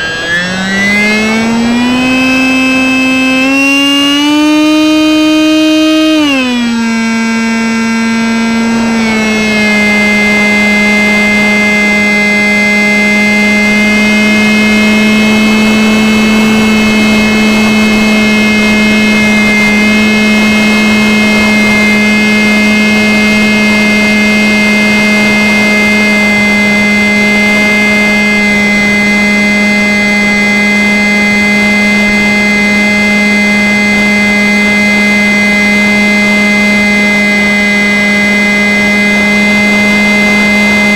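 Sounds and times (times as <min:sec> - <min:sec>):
electric motor propeller whine: 0:00.0 - 0:40.9.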